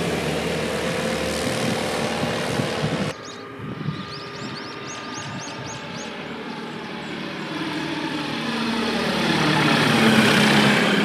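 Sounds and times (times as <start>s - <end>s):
propeller aircraft flying overhead: 0.0s - 11.0s.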